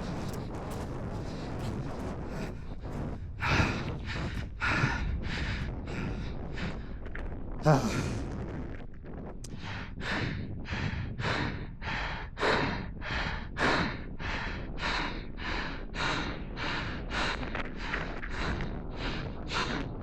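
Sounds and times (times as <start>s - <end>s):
person breathing hard: 0.0s - 7.0s, 9.5s - 20.0s.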